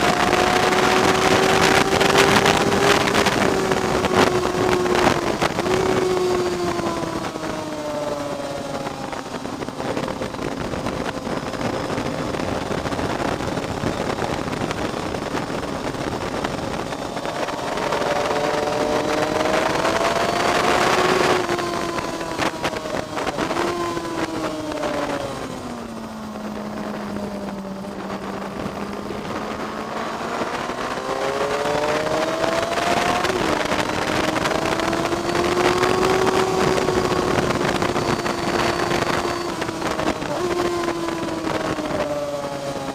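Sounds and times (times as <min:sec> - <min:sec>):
car engine accelerating: 0:00.0 - 0:42.9
wind noise: 0:00.0 - 0:42.9.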